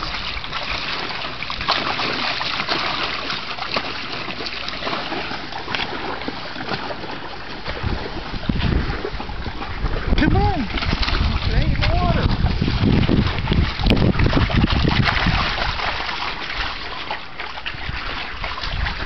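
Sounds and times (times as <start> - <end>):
dog splashing in water: 0.0 - 19.0.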